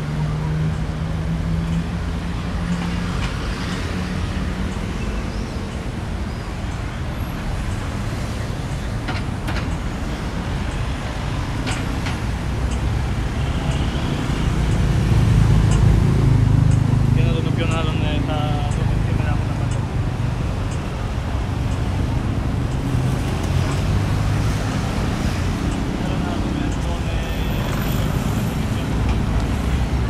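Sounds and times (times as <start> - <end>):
cars and scooters passing: 0.0 - 30.0.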